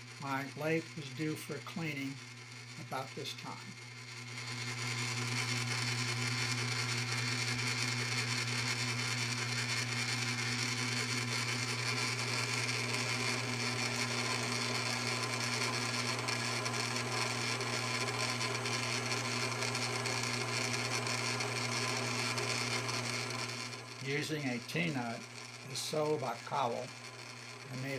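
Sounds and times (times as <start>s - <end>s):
lathe high whine: 0.0s - 27.9s
lathe motor humming: 0.0s - 27.9s.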